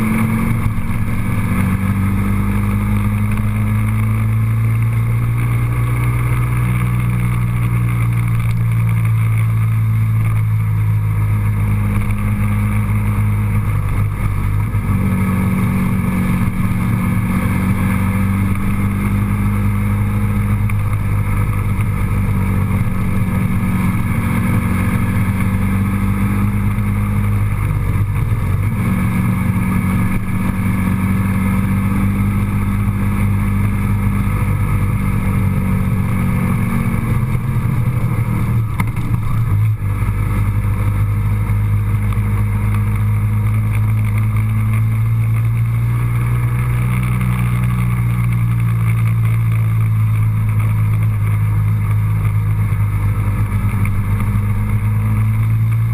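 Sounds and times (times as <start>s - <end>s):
vehicle engine droning: 0.0s - 55.9s.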